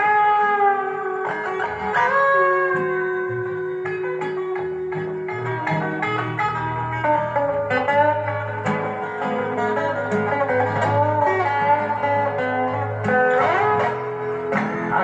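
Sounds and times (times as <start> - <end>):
guitar-led instrumental song: 0.0 - 15.0
bass line: 1.6 - 15.0.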